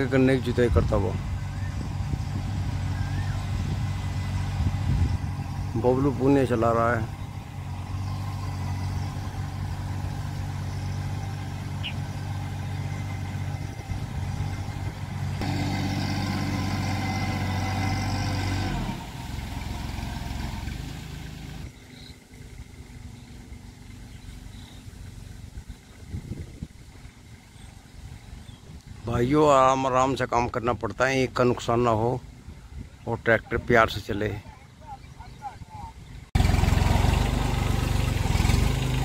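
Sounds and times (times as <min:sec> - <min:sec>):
tractor engine running: 0:00.0 - 0:29.0, 0:35.4 - 0:39.0.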